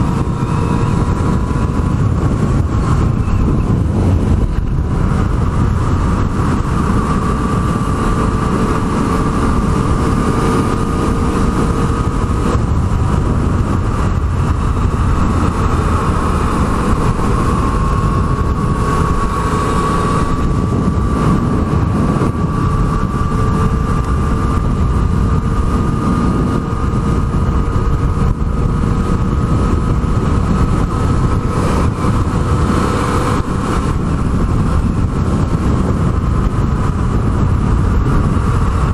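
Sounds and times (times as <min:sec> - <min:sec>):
motorcycle engine running: 0:00.0 - 0:38.9
steady rushing noise: 0:00.0 - 0:38.9.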